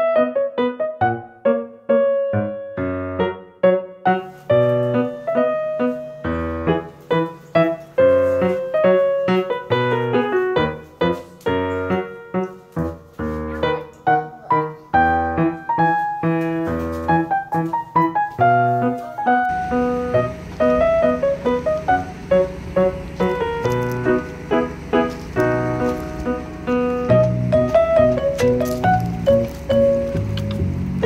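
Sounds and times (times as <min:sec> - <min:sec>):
upbeat solo piano music: 0:00.0 - 0:31.0.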